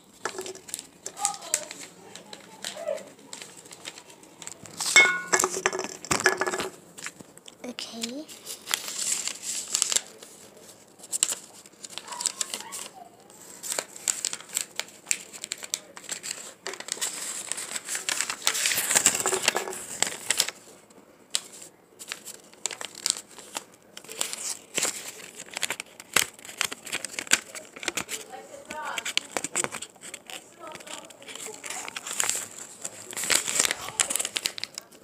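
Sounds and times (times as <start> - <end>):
paper folding and rustling: 0.0 - 35.0.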